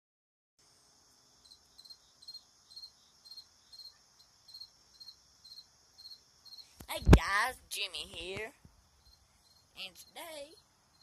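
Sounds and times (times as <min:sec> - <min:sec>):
crickets chirping: 0:00.6 - 0:11.0.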